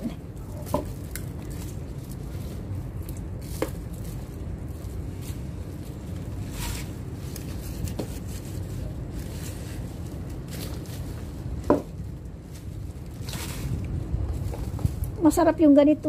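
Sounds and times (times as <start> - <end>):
soil rustling and crumbling: 0.0 - 16.0
steady low rumble: 0.0 - 16.0.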